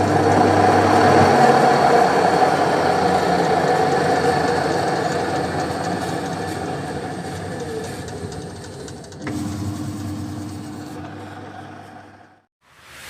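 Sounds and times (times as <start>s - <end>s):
washing machine rumble: 0.0s - 12.4s.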